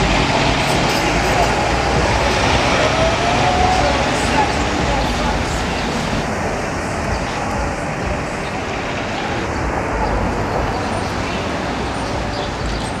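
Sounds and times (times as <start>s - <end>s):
bus engine pulling away: 0.0s - 13.0s
street traffic: 0.0s - 13.0s.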